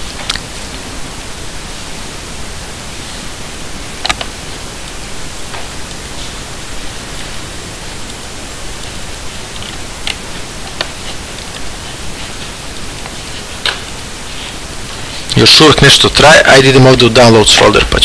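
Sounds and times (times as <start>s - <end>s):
microphone hiss: 0.0s - 18.0s.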